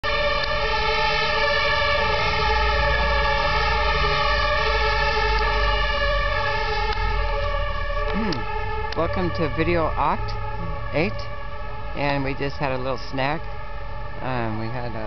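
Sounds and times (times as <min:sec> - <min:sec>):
fire engine siren: 0:00.0 - 0:15.0
low rumble of truck: 0:00.0 - 0:15.0.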